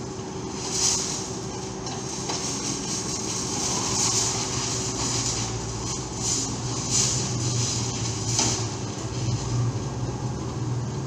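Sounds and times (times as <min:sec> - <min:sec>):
excavator diesel engines running: 0:00.0 - 0:11.0.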